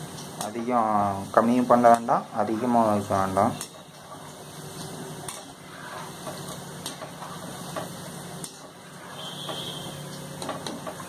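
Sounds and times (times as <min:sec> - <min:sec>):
dough deep-frying in oil: 0:00.0 - 0:11.0.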